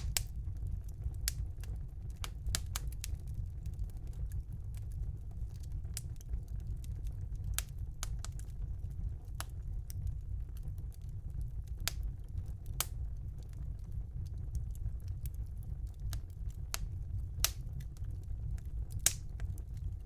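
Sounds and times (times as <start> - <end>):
fire crackling in a fireplace: 0.0 - 20.0.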